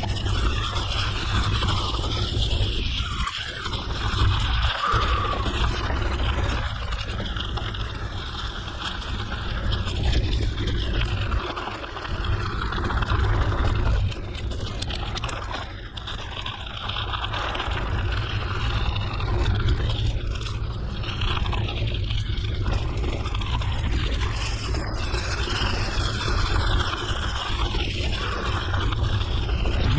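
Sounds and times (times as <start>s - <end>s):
bike tyres on dirt: 0.0s - 29.9s
wind rumble on microphone: 0.0s - 29.9s.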